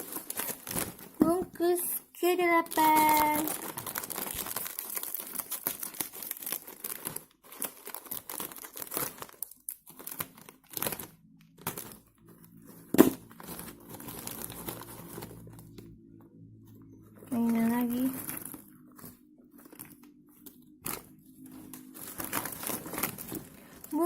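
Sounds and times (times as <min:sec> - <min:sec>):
plastic snack packet crinkling: 0:00.0 - 0:16.0, 0:17.0 - 0:24.0.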